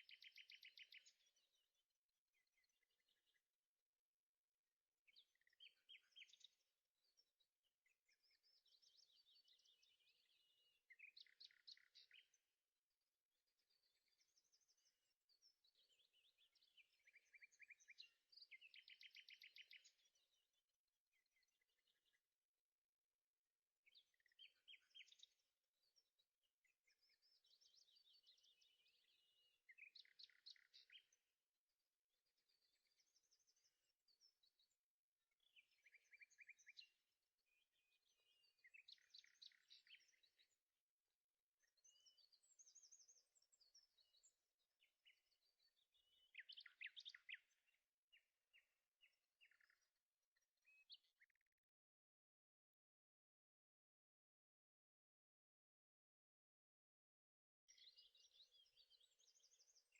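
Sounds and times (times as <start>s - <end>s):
small birds chirping: 0.0s - 4.0s, 4.6s - 51.6s, 57.7s - 59.9s.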